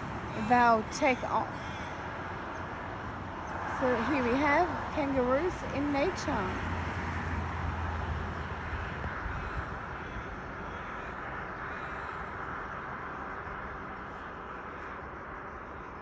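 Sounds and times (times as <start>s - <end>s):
distant aircraft engine rumble: 0.0s - 16.0s.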